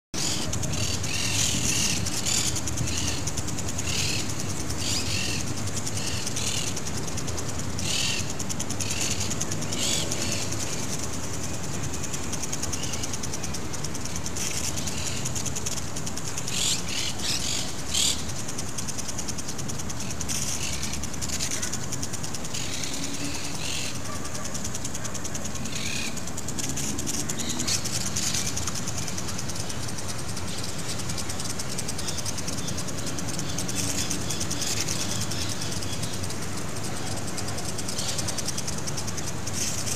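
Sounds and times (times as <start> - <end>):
lawn sprinkler spraying water: 0.2 - 39.9.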